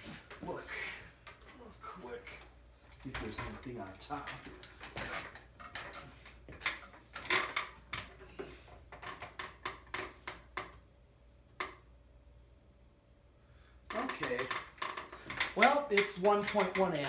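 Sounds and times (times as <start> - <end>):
clicks and knocks handling ceiling fan: 0.0 - 1.6, 2.2 - 10.9, 11.5 - 11.9, 13.9 - 17.0
low steady hum: 0.0 - 17.0.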